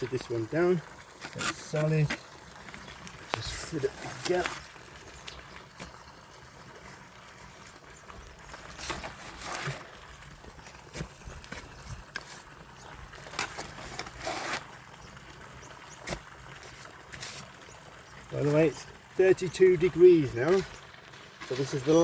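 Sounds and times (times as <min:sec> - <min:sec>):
scraping wet cement and stones: 0:00.0 - 0:22.0.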